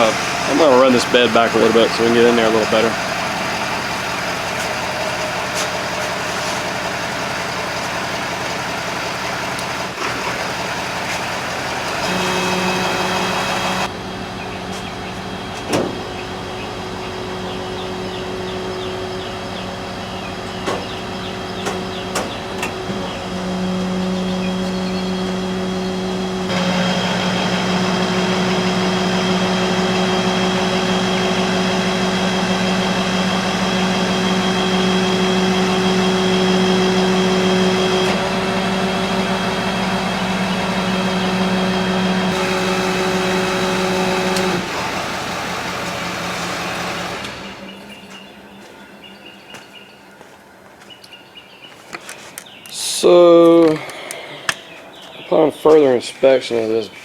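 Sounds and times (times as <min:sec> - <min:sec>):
hydraulics working: 0:00.0 - 0:49.0
diesel truck engine running: 0:00.0 - 0:49.8.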